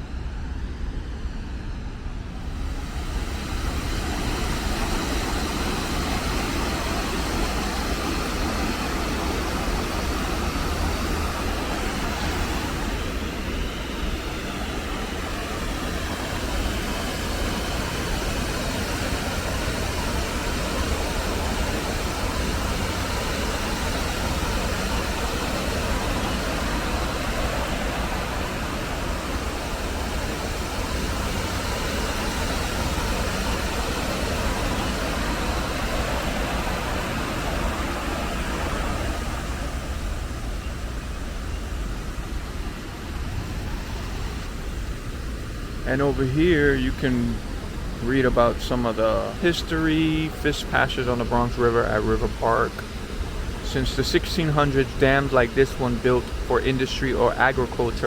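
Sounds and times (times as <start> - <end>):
water rushing over a dam: 2.6 - 58.0.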